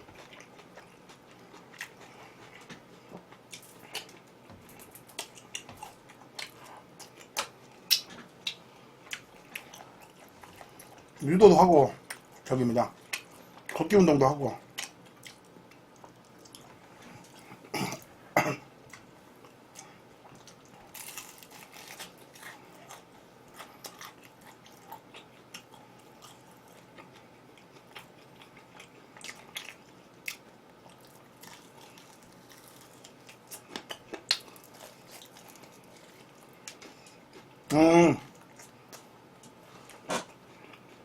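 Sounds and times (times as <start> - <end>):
chewing and crunching: 0.0 - 11.3, 12.0 - 14.0, 14.6 - 18.1, 18.9 - 37.7, 38.3 - 41.0.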